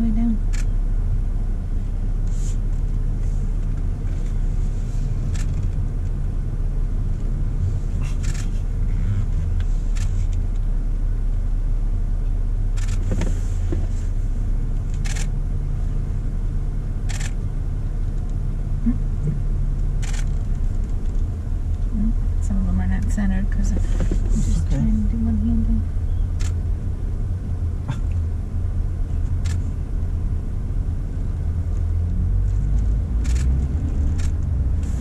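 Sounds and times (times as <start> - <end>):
car engine humming: 0.0 - 35.0.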